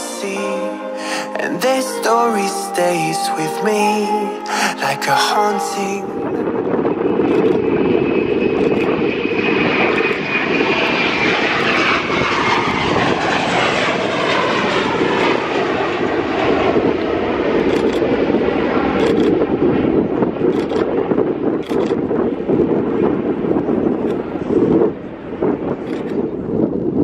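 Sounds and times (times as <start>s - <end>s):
aircraft flying past: 4.4s - 27.0s.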